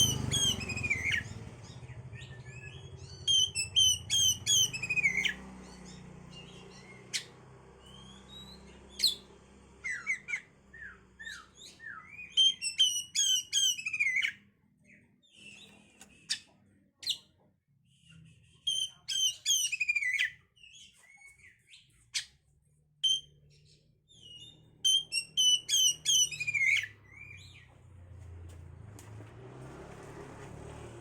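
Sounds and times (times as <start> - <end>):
magpie-robin singing: 0.0 - 27.9.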